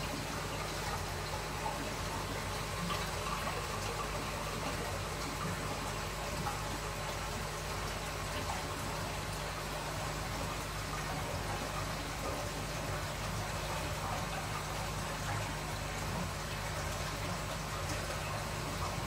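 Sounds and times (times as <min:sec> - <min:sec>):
pump hum: 0:00.0 - 0:19.0
water trickling: 0:00.0 - 0:19.0.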